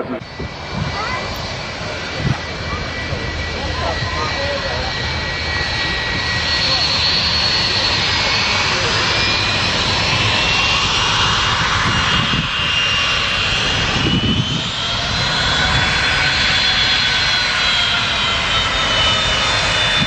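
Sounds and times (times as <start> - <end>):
high turbine whine: 0.0 - 20.0
jet engines roaring: 0.0 - 20.0.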